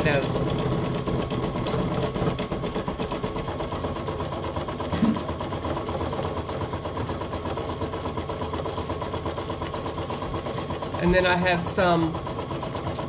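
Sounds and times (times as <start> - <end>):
embroidery machine stitching: 0.0 - 13.0.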